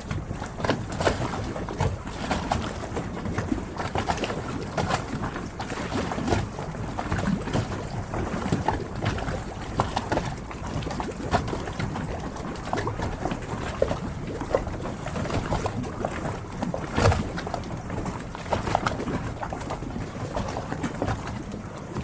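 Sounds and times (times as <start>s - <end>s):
water lapping against boats: 0.0s - 22.0s.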